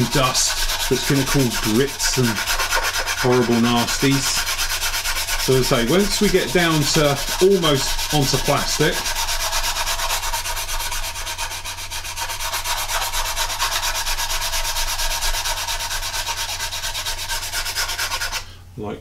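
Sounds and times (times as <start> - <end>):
sanding file scraping plastic: 0.0 - 18.5.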